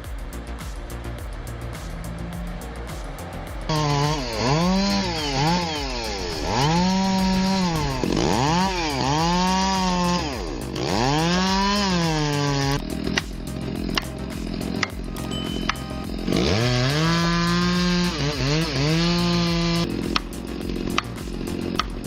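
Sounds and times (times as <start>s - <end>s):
chainsaw engine revving: 1.7s - 15.3s, 16.0s - 22.0s.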